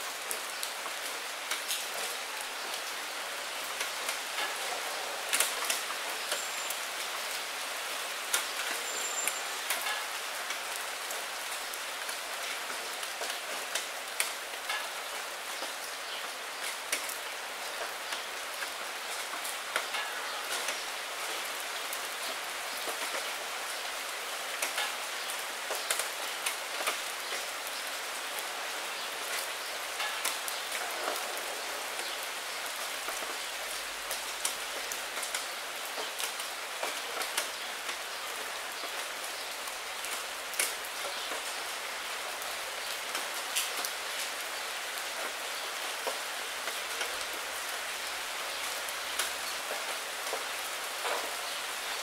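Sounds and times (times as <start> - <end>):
rain drops tapping on window glass: 3.7 - 7.4, 8.3 - 23.8, 24.5 - 52.0.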